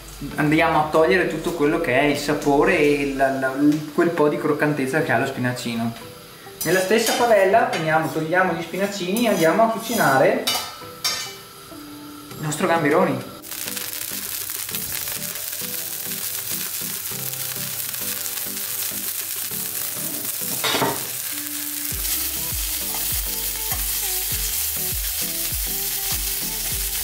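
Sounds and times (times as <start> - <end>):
prawns sizzling in hot oil: 1.4 - 27.0.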